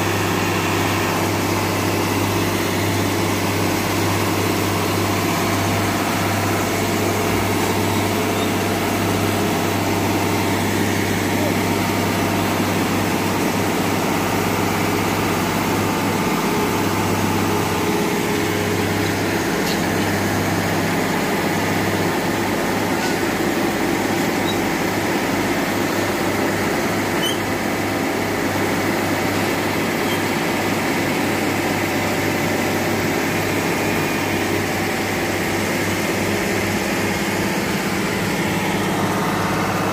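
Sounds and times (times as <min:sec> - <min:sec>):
machine engine humming: 0:00.0 - 0:39.9.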